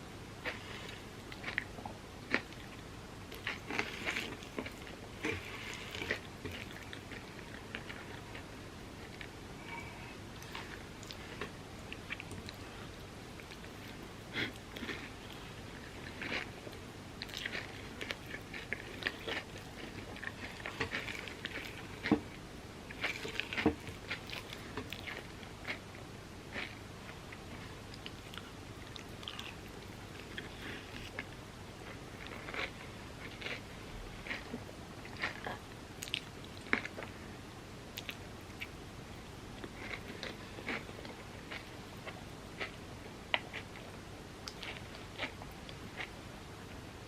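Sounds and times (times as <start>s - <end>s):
person chewing crunchy food: 0.4s - 37.2s, 39.6s - 46.2s.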